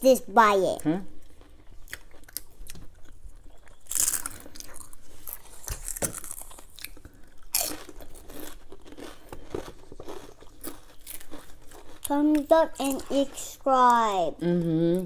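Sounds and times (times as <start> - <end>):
crunching and chewing snack food: 1.1 - 14.0.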